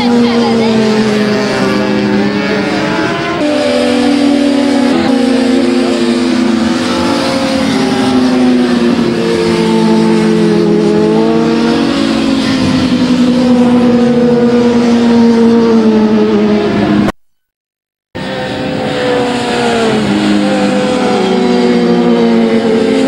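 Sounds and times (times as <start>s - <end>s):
motorcycle racing engines revving: 0.0s - 17.2s, 18.2s - 23.0s.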